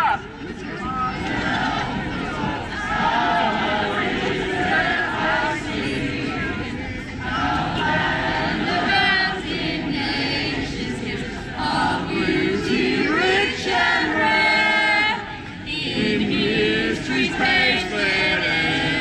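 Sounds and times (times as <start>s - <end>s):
crowd singing in unison: 0.0s - 19.0s.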